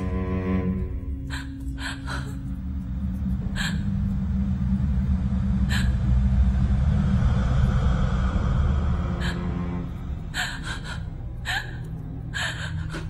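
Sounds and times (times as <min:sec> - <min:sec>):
low ominous drone: 0:00.0 - 0:13.0.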